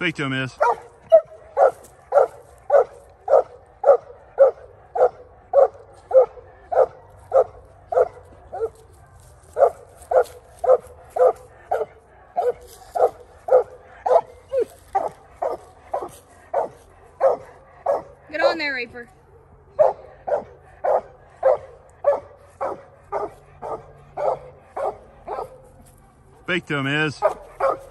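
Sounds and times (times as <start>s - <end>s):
dog barking: 0.6s - 18.5s, 19.2s - 25.7s, 27.0s - 27.9s.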